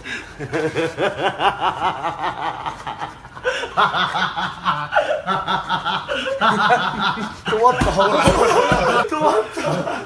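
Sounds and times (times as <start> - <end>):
men laughing: 0.1 - 10.0.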